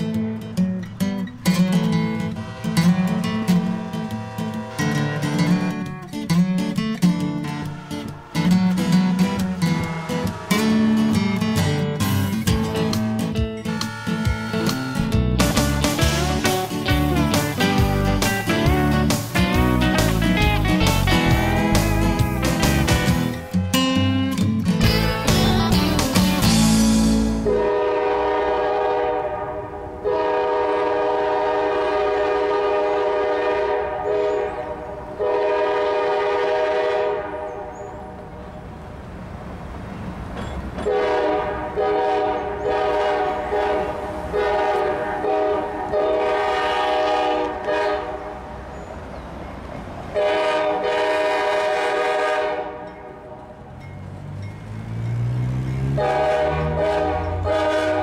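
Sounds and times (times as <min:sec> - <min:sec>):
low diesel engine rumble: 0:00.2 - 0:58.0
locomotive air horn blasts: 0:01.9 - 0:06.0, 0:07.1 - 0:23.9, 0:24.9 - 0:38.3, 0:40.8 - 0:48.6, 0:50.1 - 0:53.6, 0:55.4 - 0:58.0.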